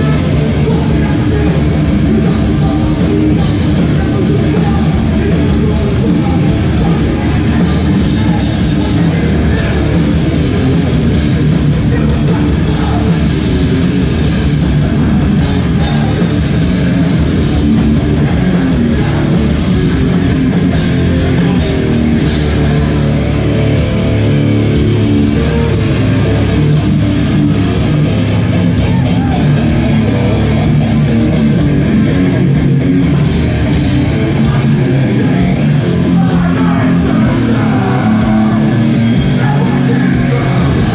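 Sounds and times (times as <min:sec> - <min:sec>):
distorted electric guitars: 0:00.0 - 0:40.9
drums: 0:00.0 - 0:40.9.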